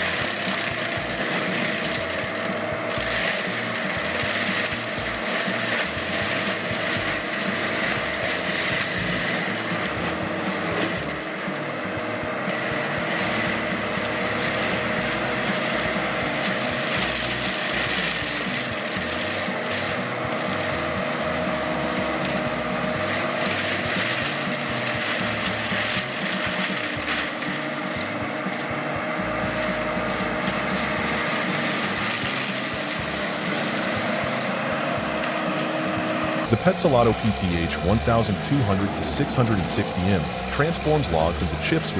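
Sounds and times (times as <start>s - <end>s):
continuous grinding: 0.0s - 41.9s
heavy machine engine whine: 0.0s - 41.9s.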